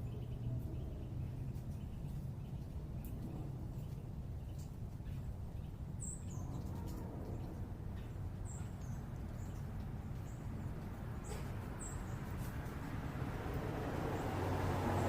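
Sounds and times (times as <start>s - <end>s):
distant city rumble: 0.0s - 15.0s
songbird chirping: 0.0s - 15.0s.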